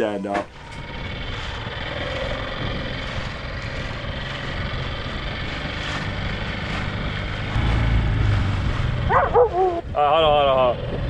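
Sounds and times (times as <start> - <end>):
outboard motor running: 0.5 - 11.0
wind buffeting microphone: 0.5 - 11.0.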